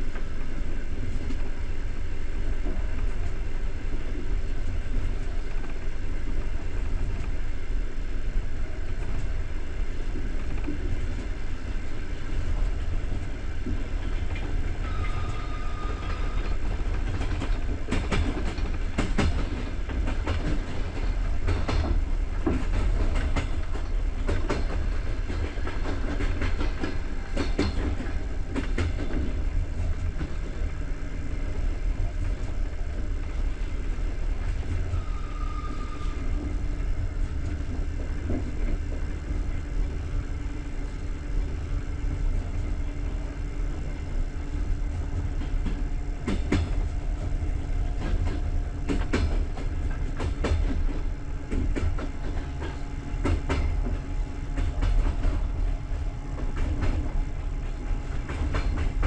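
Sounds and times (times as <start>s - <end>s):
train coach rumbling: 0.0s - 59.0s
wheels clacking over rail joints: 10.1s - 40.5s, 41.4s - 59.0s.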